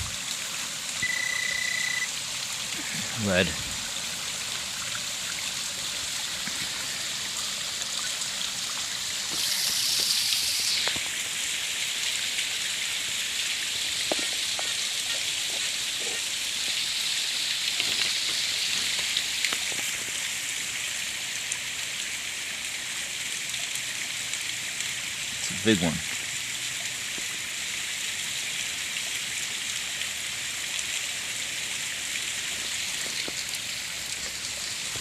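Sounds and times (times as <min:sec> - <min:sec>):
hissing rush of water: 0:00.0 - 0:35.0
stream running over rock: 0:00.0 - 0:35.0.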